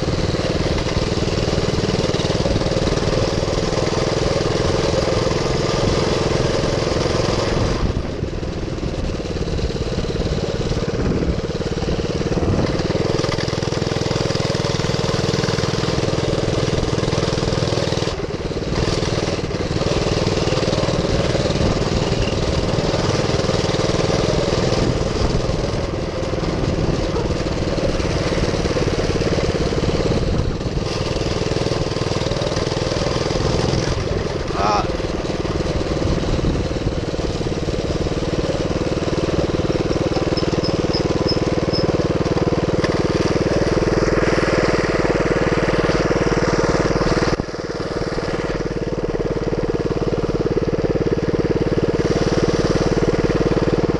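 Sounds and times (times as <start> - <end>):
small engine running under throttle: 0.0 - 53.9.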